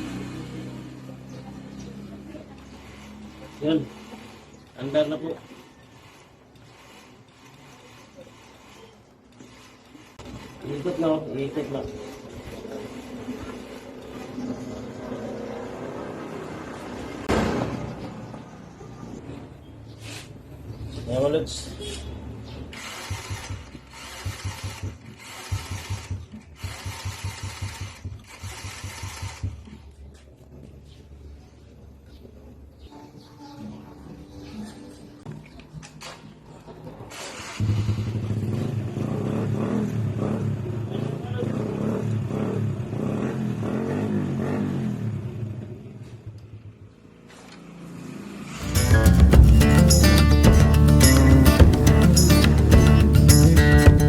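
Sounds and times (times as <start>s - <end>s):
motorcycle engine puttering: 0.0s - 20.9s, 22.4s - 32.4s, 35.2s - 47.9s, 48.5s - 54.0s.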